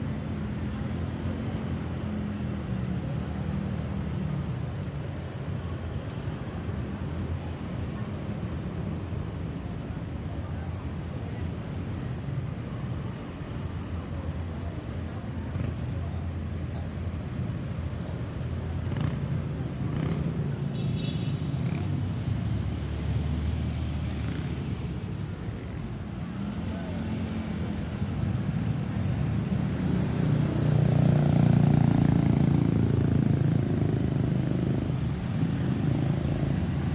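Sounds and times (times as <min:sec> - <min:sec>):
road traffic rumble: 0:00.0 - 0:36.9.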